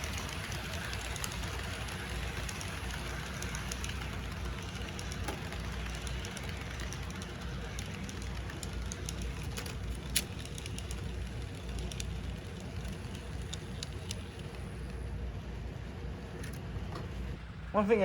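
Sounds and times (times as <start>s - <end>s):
model train motor rumble: 0.0s - 17.4s.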